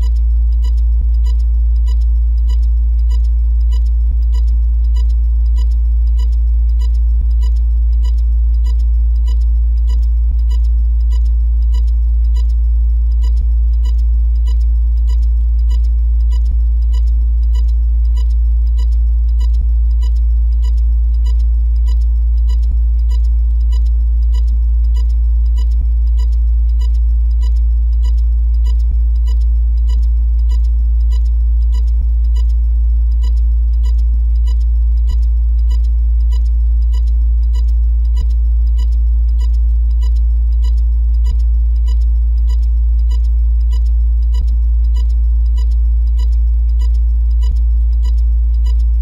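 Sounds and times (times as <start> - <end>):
faint low pulse: 0.0 - 49.0
high ticking blip: 0.0 - 49.0
low electronic drone: 0.0 - 49.0.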